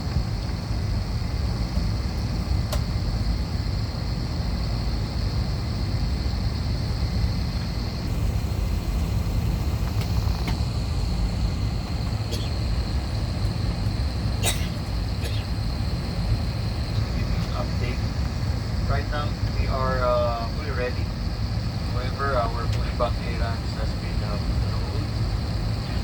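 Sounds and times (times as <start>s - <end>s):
aircraft cabin hum: 0.0s - 26.0s
ventilation hiss: 0.0s - 26.0s.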